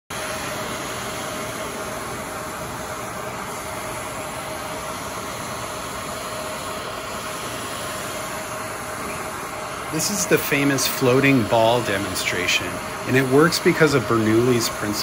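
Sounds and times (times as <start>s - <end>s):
hair dryer running: 0.1s - 15.0s.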